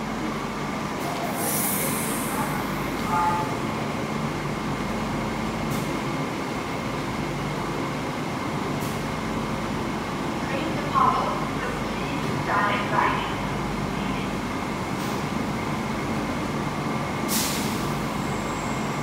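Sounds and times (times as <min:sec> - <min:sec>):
light rail vehicle hum and whine: 0:00.0 - 0:19.0.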